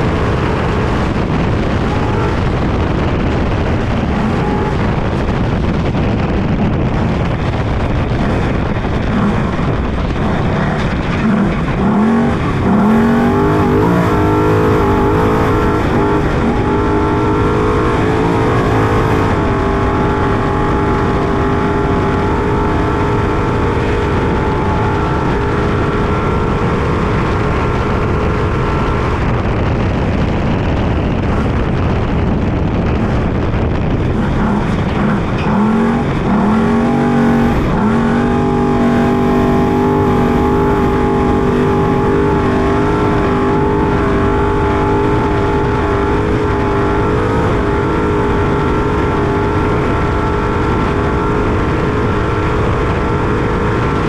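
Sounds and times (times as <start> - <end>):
truck engine running hard: 0.0 - 54.0.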